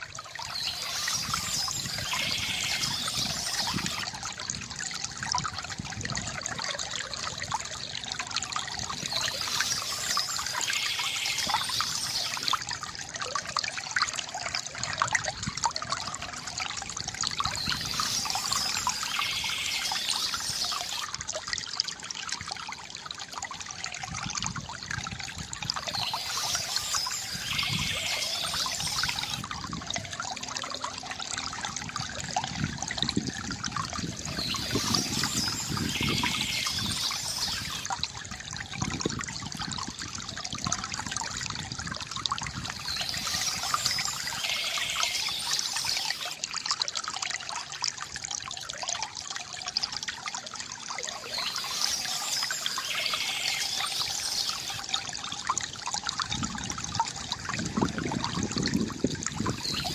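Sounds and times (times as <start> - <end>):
water trickling into a basin: 0.0 - 59.9.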